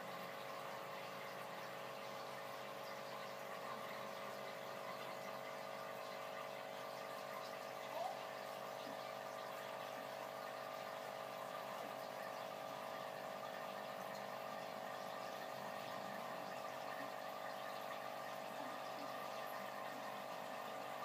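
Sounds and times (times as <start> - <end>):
mechanical hum with tones: 0.0 - 21.0.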